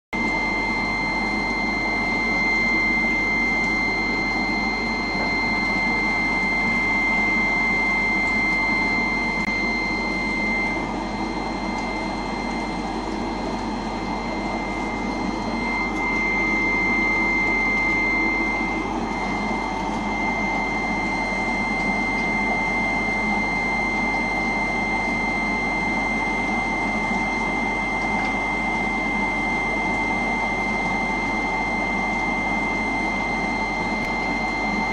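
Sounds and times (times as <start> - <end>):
aquarium equipment humming: 0.1 - 34.9
high-pitched whine: 0.2 - 34.9.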